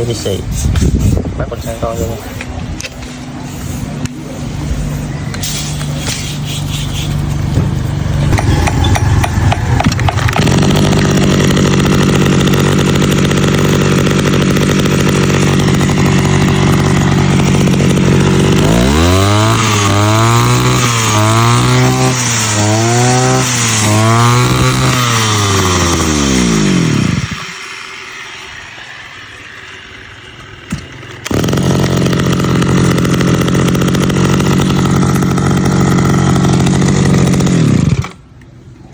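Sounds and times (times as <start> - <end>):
brush cutter engine revving: 0.0 - 38.4.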